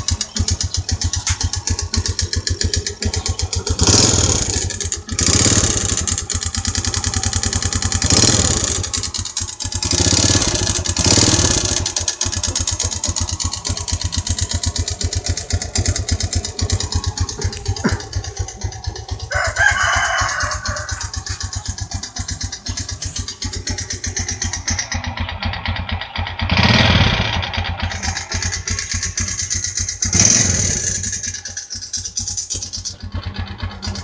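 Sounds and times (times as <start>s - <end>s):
motorcycle engine idling roughly: 0.0s - 34.0s.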